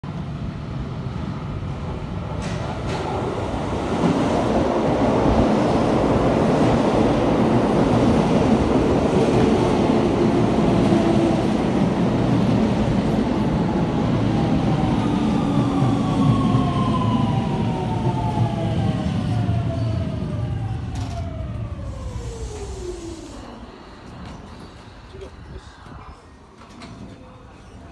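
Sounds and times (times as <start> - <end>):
train wheels rumbling on rails: 1.8 - 27.3.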